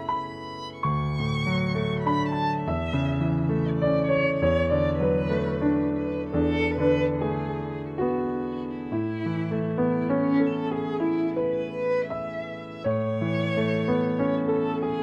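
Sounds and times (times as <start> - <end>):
violin melody: 0.0 - 15.0.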